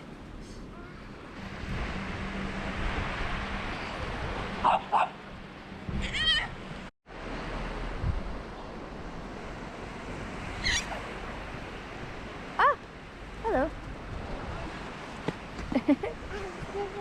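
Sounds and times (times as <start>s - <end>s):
sea waves washing on beach: 0.0s - 17.0s.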